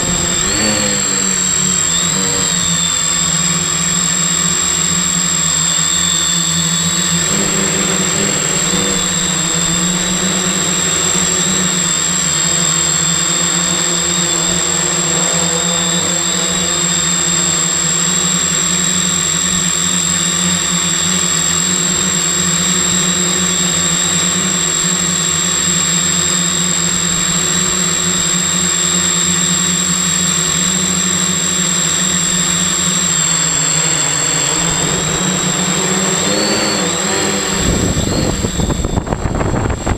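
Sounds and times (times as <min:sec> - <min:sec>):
drone propeller hum: 0:00.0 - 0:39.9
high motor whine: 0:00.0 - 0:39.9.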